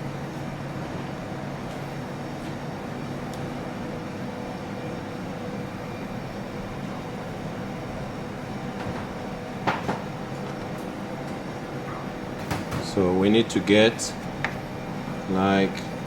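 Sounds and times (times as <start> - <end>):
kitchen ventilation hum: 0.0 - 16.0.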